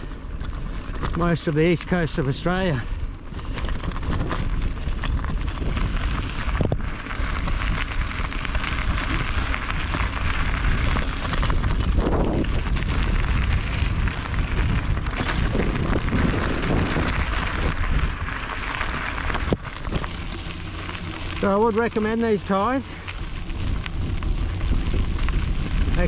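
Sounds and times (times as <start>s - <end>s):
bicycle tyres rolling on gravel: 0.0s - 26.0s
wind buffeting microphone: 2.5s - 26.0s.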